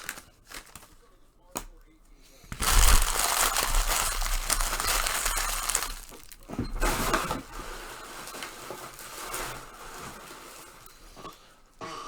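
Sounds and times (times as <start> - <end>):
cards brushing and sliding: 0.0 - 1.0, 2.4 - 12.0
card wrappers crinkling: 0.0 - 11.7.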